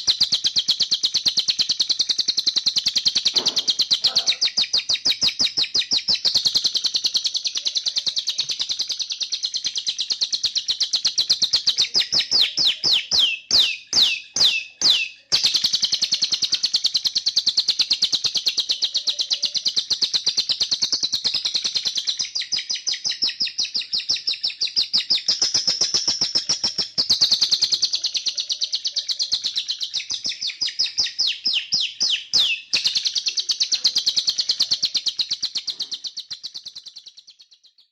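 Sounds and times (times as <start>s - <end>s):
canary singing trills: 0.0s - 37.9s.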